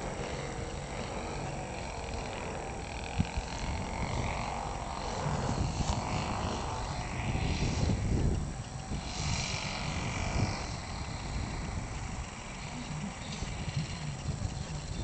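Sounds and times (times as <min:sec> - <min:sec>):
model airplane engine droning: 0:00.0 - 0:15.0
wind rumble on microphone: 0:00.0 - 0:15.0.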